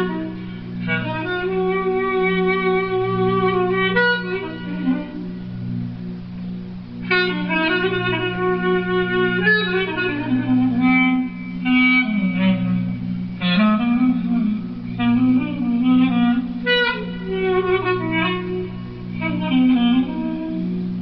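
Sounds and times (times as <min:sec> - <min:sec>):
clarinet playing lively melody: 0:00.0 - 0:05.4, 0:07.0 - 0:21.0
low accompaniment: 0:00.0 - 0:21.0.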